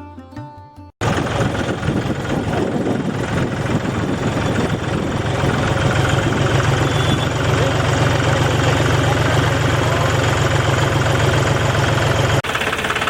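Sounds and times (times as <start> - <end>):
tractor engine running: 1.0 - 13.0.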